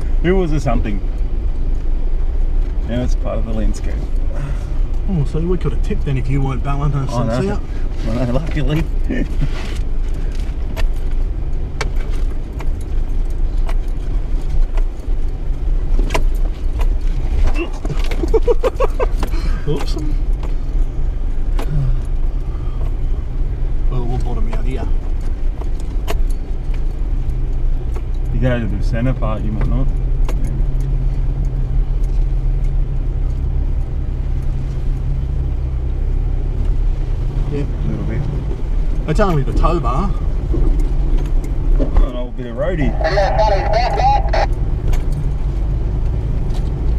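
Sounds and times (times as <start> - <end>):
low engine and drivetrain rumble: 0.0 - 46.9.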